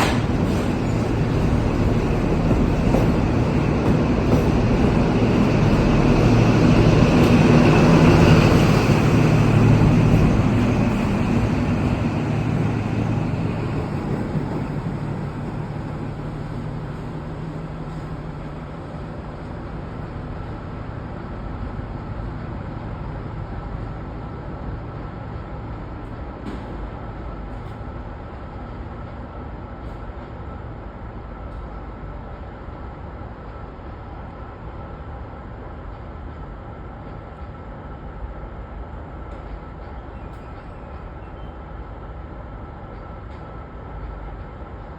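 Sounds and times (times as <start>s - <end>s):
diesel train engine rumbling: 0.0s - 44.9s.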